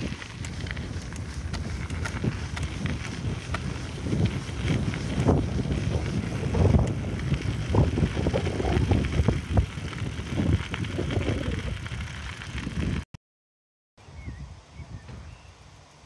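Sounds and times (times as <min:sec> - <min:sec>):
wind buffeting microphone: 0:00.0 - 0:13.0, 0:14.1 - 0:15.6
bicycle rolling on asphalt: 0:00.0 - 0:13.1.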